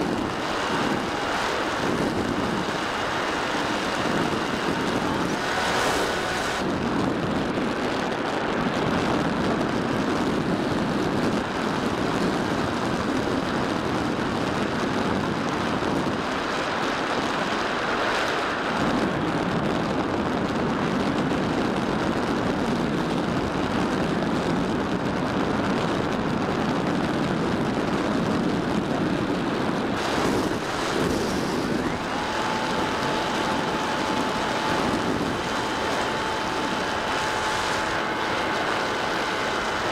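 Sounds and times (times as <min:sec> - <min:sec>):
faint steady whine: 0:00.0 - 0:20.2, 0:26.3 - 0:39.9
electric motor and propeller: 0:00.0 - 0:39.9
rush of air over glider: 0:00.0 - 0:39.9.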